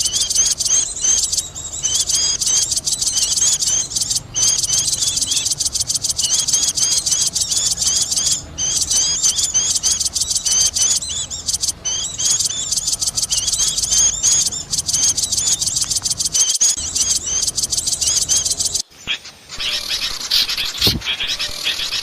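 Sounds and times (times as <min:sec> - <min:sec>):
faint varied bird chirping: 0:00.0 - 0:22.0
high-pitched bird chirps: 0:00.0 - 0:22.0.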